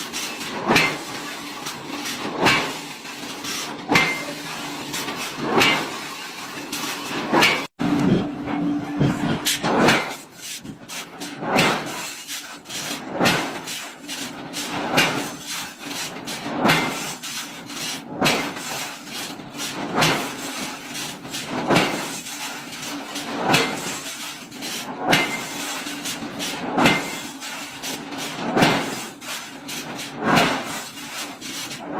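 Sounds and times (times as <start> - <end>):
heavy machine stroke: 0.0 - 31.9.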